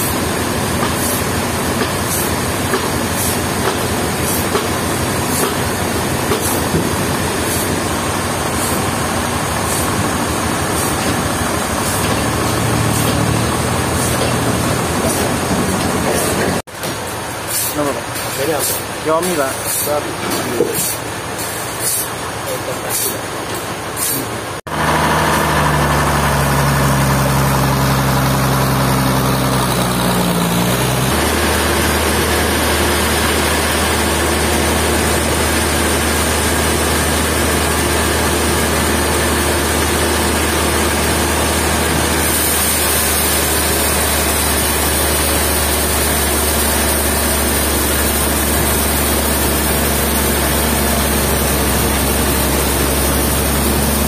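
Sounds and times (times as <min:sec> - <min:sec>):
heavy sawmill engine running: 0:00.0 - 0:54.0.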